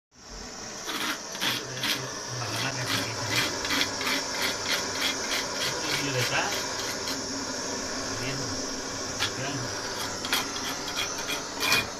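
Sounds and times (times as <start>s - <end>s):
gas torch hissing: 0.1s - 11.9s.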